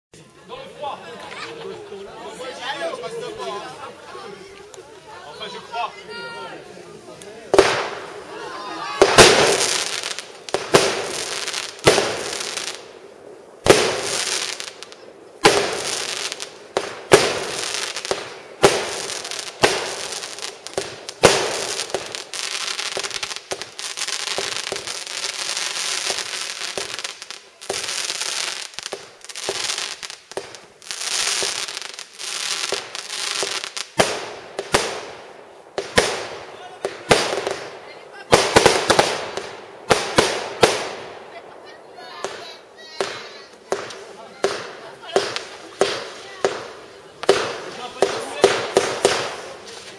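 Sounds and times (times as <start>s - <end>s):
firework crackling: 0.2s - 49.9s
firework hiss: 2.5s - 49.9s
firework shells bursting: 7.2s - 8.3s, 9.0s - 41.4s, 42.2s - 49.9s.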